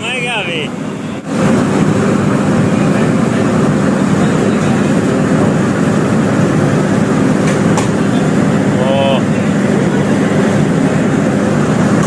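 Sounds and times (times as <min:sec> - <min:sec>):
ship machinery humming: 0:00.0 - 0:12.0.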